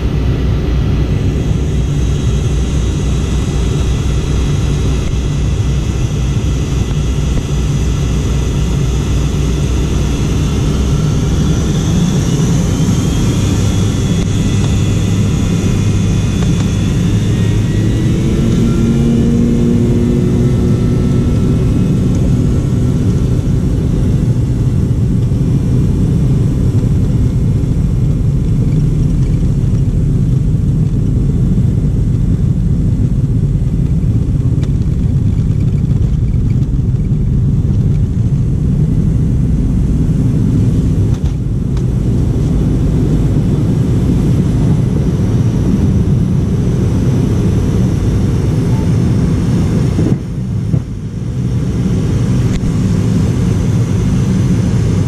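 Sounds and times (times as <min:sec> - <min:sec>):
airplane cabin rumble taxiing: 0:00.0 - 0:55.0
faint engine tones: 0:00.0 - 0:55.0.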